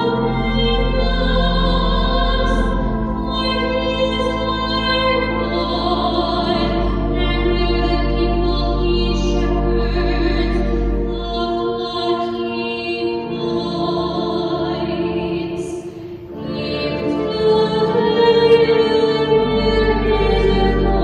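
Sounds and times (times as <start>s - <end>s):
person singing: 0.0s - 21.0s.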